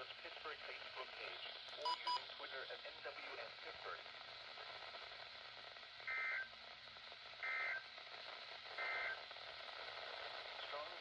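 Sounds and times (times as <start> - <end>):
faint radio hiss: 0.0 - 11.0.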